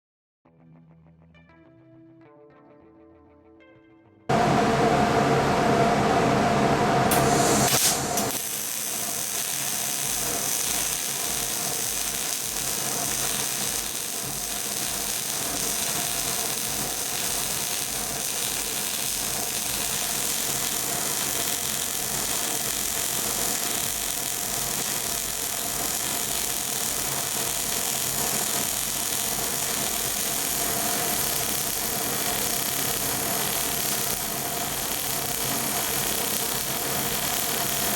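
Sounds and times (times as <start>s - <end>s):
welding arc hiss: 7.1s - 37.9s.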